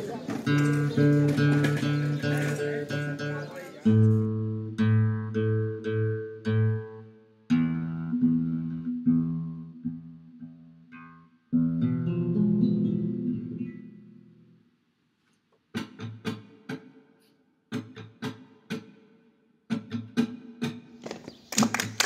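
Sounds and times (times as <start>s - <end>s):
flamenco guitar strumming: 0.0s - 14.6s, 15.7s - 17.1s, 17.7s - 19.1s, 19.7s - 22.0s.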